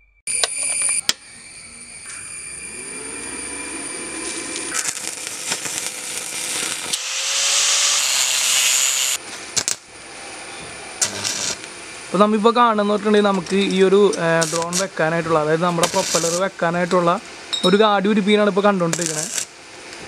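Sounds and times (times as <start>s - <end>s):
welding arc crackling and hissing: 0.4s - 20.0s.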